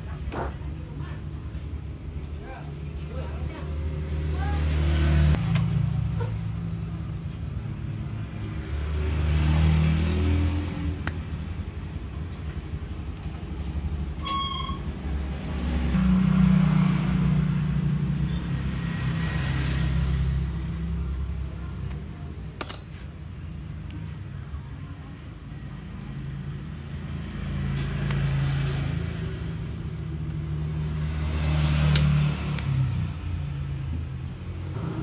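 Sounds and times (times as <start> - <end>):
vehicles passing: 0.0 - 14.2, 14.8 - 35.0.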